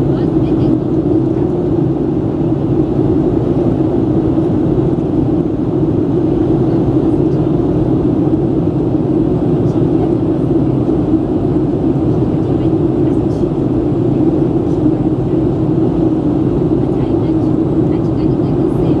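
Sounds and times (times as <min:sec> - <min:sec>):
jet engines humming: 0:00.0 - 0:19.0
rushing airflow: 0:00.0 - 0:19.0.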